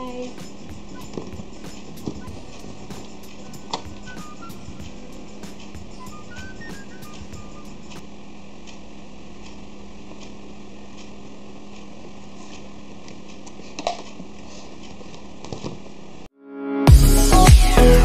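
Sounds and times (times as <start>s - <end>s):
steady low hum: 0.0s - 16.3s.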